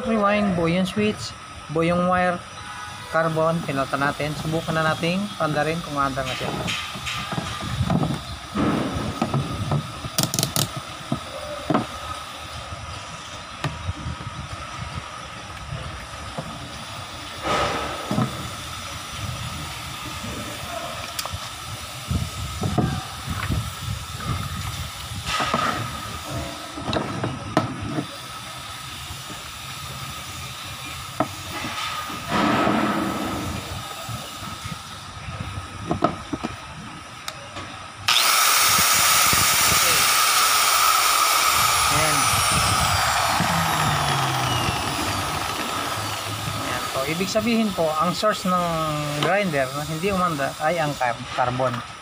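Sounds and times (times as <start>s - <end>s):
steady hiss with high whine: 0.0s - 52.0s.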